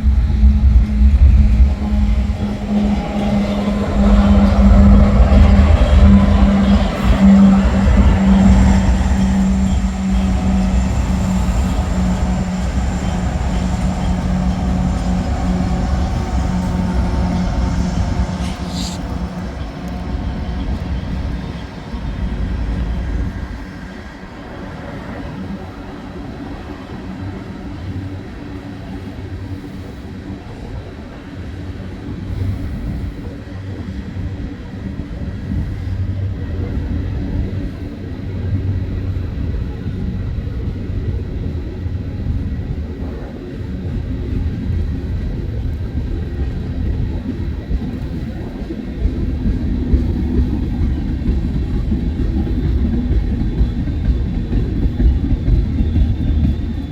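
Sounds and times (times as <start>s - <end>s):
freight train rumbling by: 0.0s - 56.9s.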